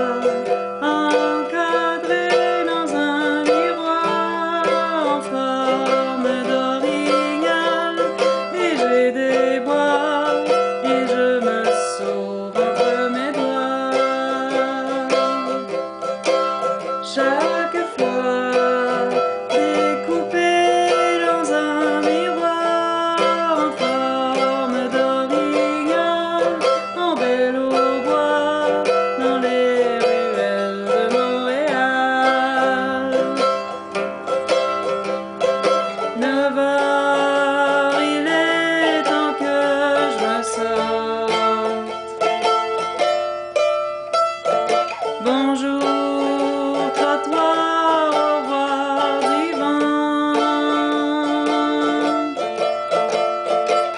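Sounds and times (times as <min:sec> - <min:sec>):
woman singing: 0:00.0 - 0:43.0, 0:44.7 - 0:53.9
mandolin strumming: 0:00.0 - 0:53.9.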